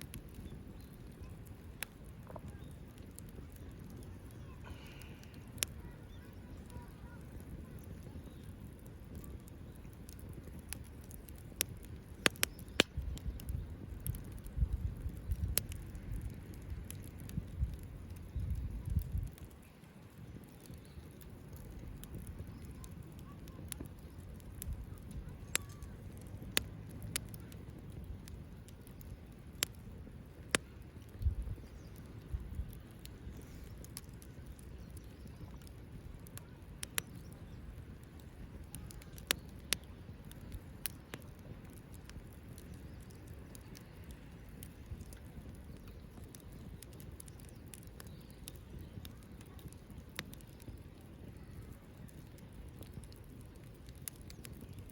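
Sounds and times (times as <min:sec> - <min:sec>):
sharp pops of fire: 0:00.0 - 0:54.9
wood fire crackling: 0:00.0 - 0:54.9.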